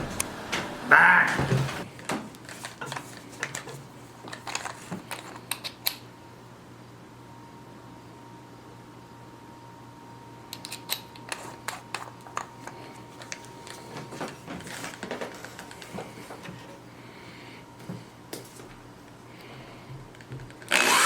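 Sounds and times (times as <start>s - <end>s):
steady faint hum: 0.0s - 21.0s.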